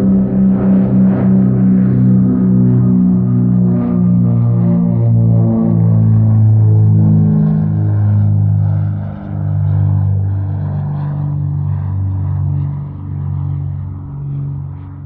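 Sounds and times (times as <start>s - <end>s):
jet aircraft droning rumble: 0.0s - 15.0s.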